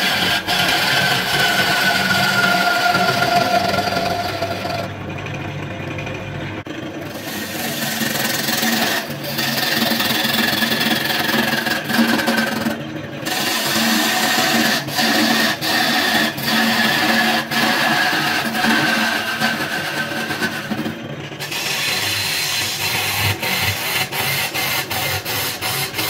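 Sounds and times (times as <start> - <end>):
chisel scraping wood: 0.0 - 4.8, 7.1 - 26.0
lathe motor hum: 0.0 - 26.0.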